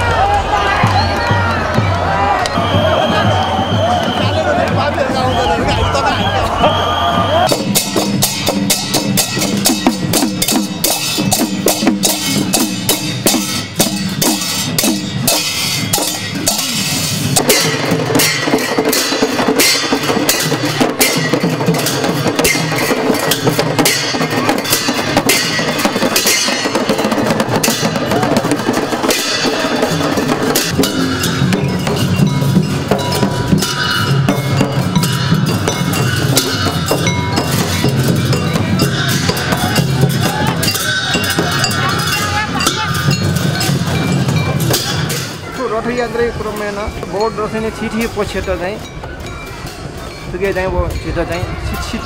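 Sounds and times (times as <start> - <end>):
barrel drums beaten: 0.8 - 51.3
brass cymbals clashing: 7.0 - 52.0.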